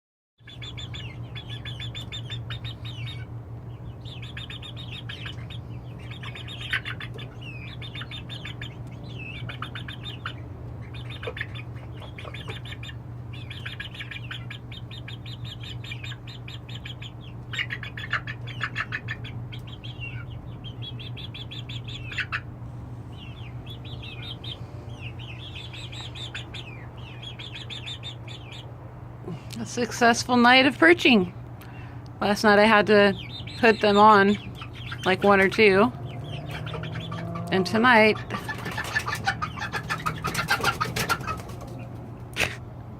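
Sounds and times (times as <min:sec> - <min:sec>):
chicks peeping: 0:00.4 - 0:42.6
steady low hum: 0:00.4 - 0:42.9.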